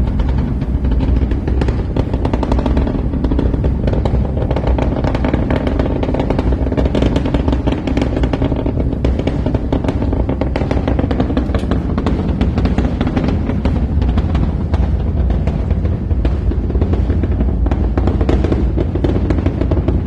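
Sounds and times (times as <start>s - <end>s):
distant rocket rumble: 0.0s - 20.0s
rocket exhaust crackling: 0.0s - 20.0s.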